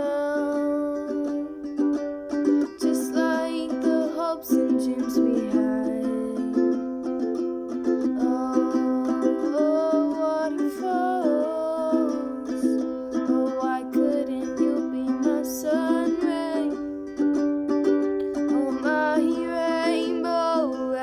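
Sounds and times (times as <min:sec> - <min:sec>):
person singing gently: 0:00.0 - 0:07.2, 0:07.8 - 0:21.0
strummed small string instrument: 0:00.0 - 0:21.0.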